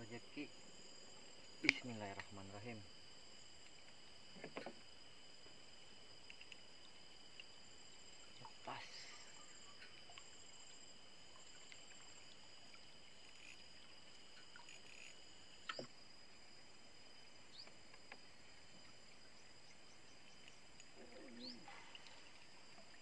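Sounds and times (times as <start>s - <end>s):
faint insect chorus: 0.0s - 23.0s.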